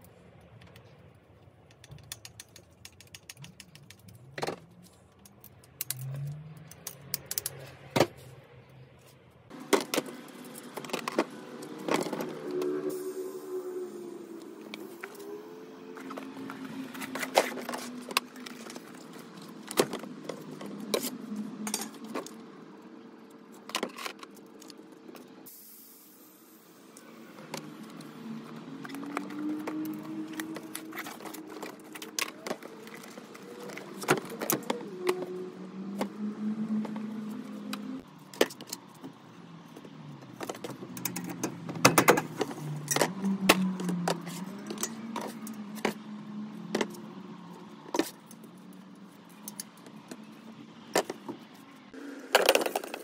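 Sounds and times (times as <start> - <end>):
bicycle parts and tools rattling: 0.0 - 13.0, 13.8 - 25.5, 27.0 - 53.0.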